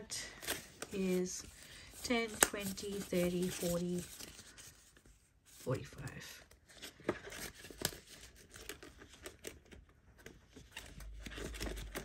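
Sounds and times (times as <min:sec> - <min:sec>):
banknotes crinkling and rustling: 0:00.0 - 0:12.0.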